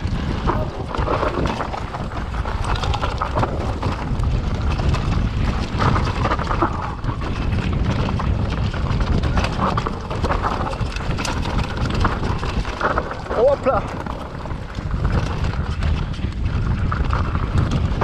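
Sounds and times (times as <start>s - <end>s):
bike clattering over rough ground: 0.0s - 18.0s
wind rush on microphone: 0.0s - 18.0s.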